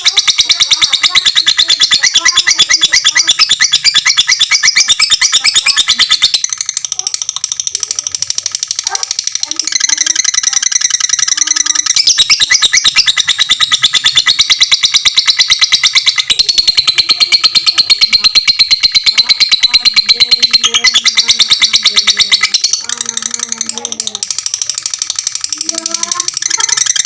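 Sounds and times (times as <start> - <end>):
lovebird shrill chatter: 0.0 - 27.0.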